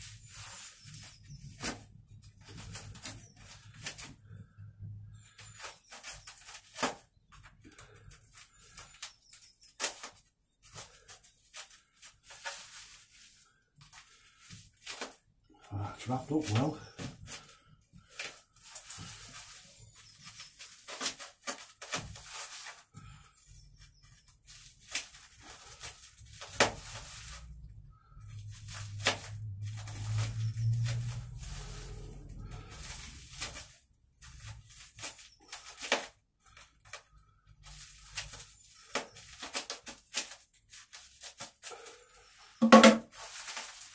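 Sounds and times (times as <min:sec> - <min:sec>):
plastic crinkling: 0:00.0 - 0:04.4, 0:05.2 - 0:43.9.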